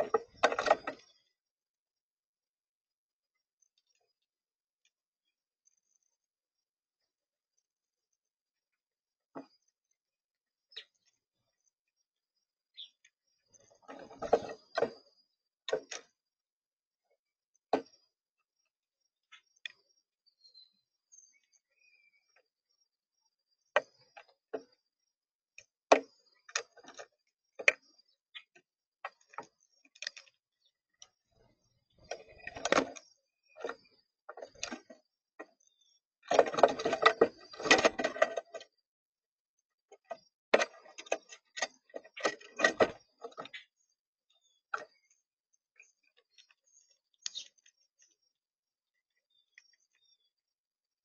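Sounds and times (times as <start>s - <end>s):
birds pecking at feeder: 0.0s - 1.4s, 8.6s - 18.2s, 19.2s - 51.0s.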